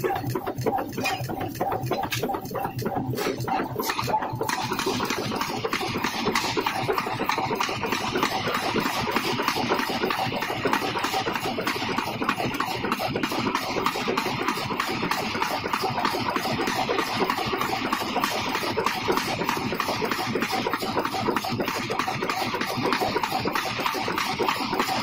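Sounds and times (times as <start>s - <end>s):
forging hammer striking steel: 0.0s - 25.0s.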